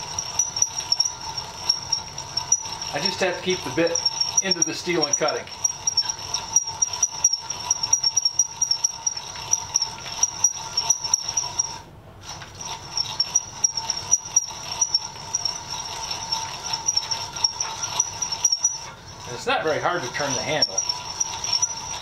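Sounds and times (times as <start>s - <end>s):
hand drill squealing through steel: 0.0s - 22.0s
rapid clicking of drill gears: 0.0s - 22.0s.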